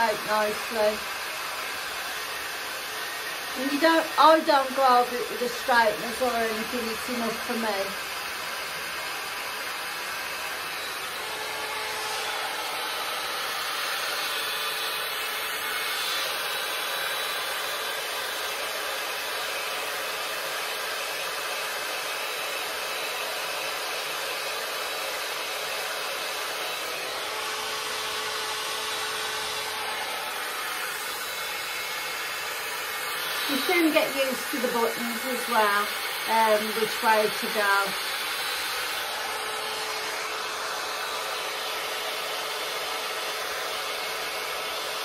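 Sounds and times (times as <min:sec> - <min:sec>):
hot air brush fan rushing: 0:00.0 - 0:45.0.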